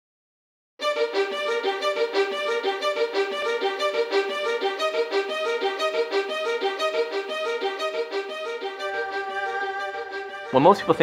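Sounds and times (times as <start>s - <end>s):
music with pulsing repeated notes: 0.8s - 11.0s.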